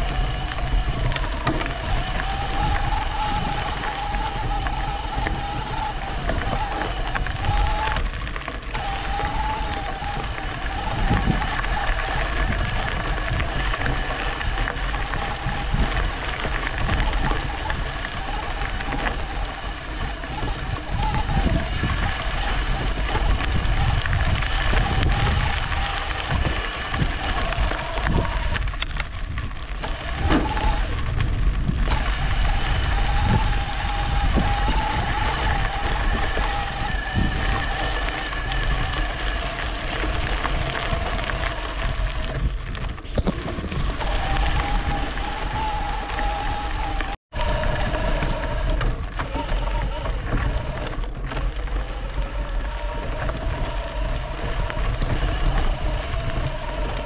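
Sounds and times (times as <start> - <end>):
electric bike motor whine: 0.0 - 57.0
wind rumble on microphone: 0.0 - 57.0.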